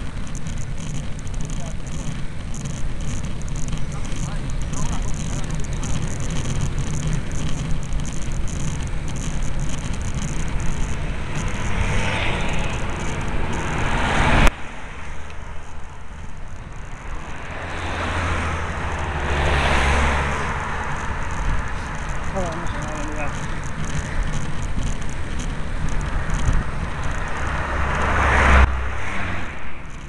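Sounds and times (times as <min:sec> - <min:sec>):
cars passing: 0:00.0 - 0:30.0
deep engine hum: 0:00.0 - 0:30.0
wind and road noise: 0:00.0 - 0:30.0.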